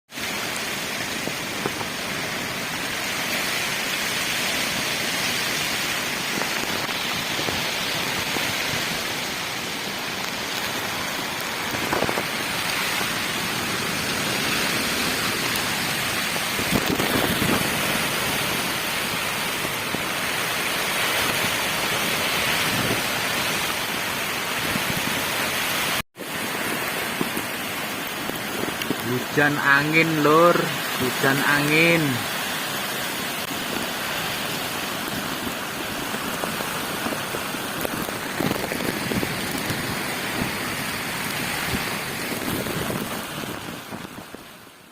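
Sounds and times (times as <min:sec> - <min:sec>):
heavy rain in strong wind: 0:00.1 - 0:44.9.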